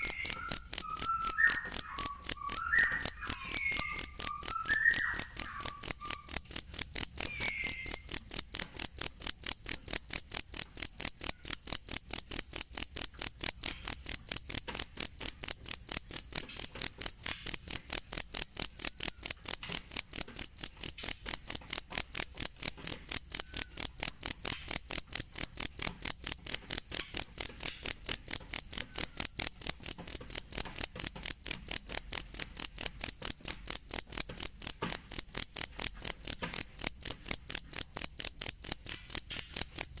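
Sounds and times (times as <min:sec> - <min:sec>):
cricket chirping: 0:00.0 - 0:40.0.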